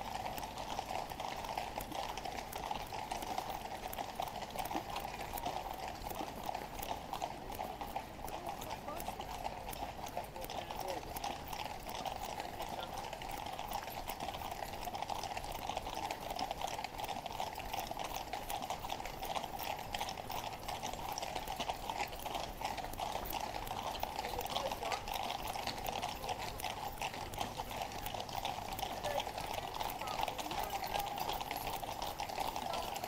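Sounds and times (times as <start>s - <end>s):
horse hooves clattering on road: 0.0s - 33.0s.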